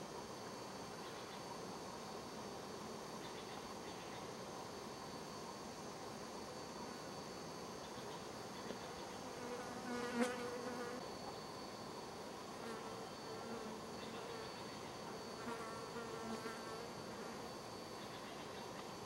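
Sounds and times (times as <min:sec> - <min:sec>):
flying insect buzzing: 0:00.6 - 0:19.0.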